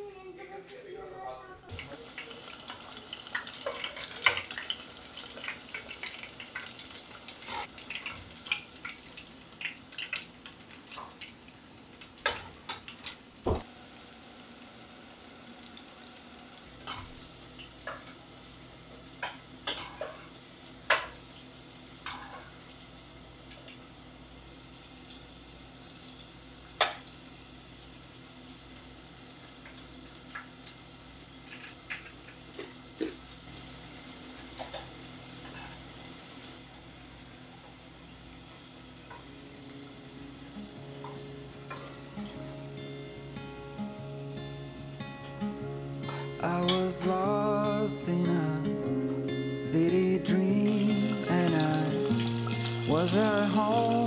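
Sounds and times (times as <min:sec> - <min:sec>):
chicken deep-frying in oil: 0:01.7 - 0:42.0, 0:50.6 - 0:54.0.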